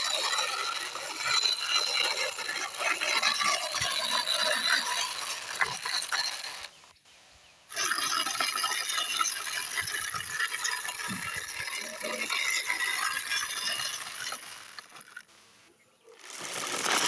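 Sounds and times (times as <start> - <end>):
geared mechanism rattling whir: 0.0 - 6.8, 7.7 - 15.3.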